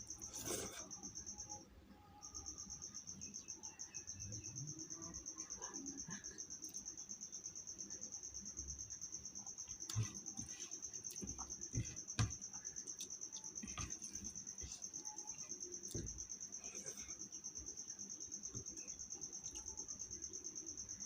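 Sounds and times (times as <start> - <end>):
cricket chirping trill: 0.0 - 21.0.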